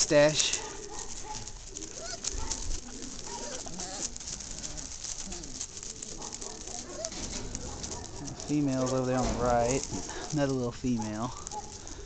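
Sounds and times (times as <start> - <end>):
puppies whimpering: 0.2 - 12.0.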